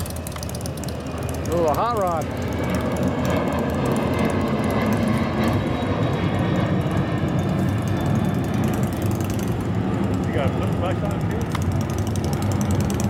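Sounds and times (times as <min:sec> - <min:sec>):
motorcycle exhaust rumbling: 0:00.0 - 0:05.7, 0:06.6 - 0:13.0.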